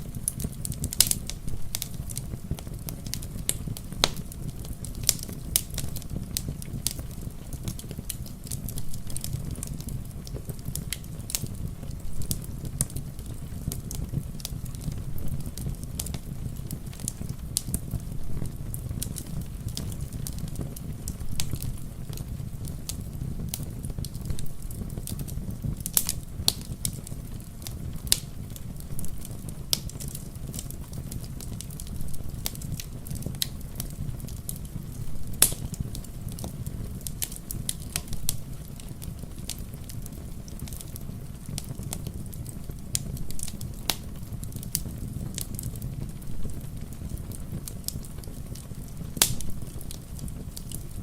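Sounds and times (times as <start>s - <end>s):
fire pops and snaps: 0.0s - 51.0s
wood fire crackling: 0.0s - 51.0s.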